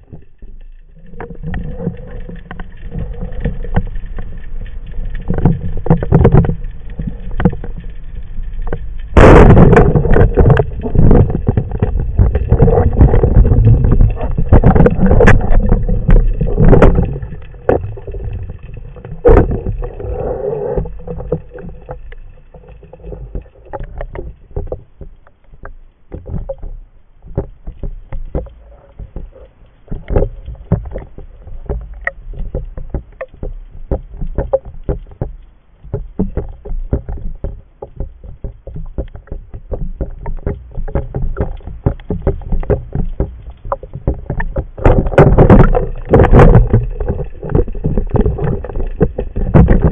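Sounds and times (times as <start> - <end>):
crackle of small clicks: 0.0 - 49.9
low rumble: 0.0 - 49.9
water sloshing and splashing: 0.0 - 49.9.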